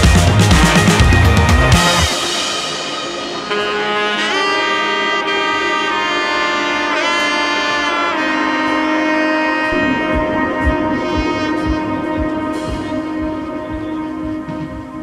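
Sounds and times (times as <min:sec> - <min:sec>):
background music with sliding notes: 0:00.0 - 0:15.0.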